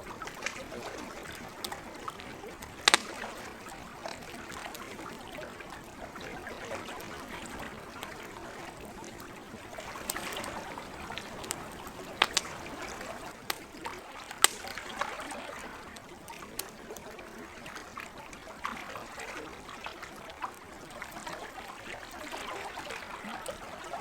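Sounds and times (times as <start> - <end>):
campfire crackling and popping: 0.0 - 24.0
lake water washing: 0.0 - 24.0.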